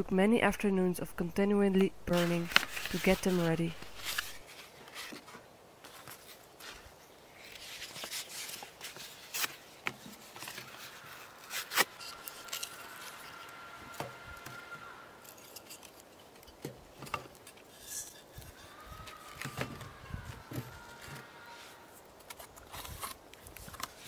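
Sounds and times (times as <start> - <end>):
paper crumpling and rustling: 2.1 - 13.5, 15.2 - 24.0.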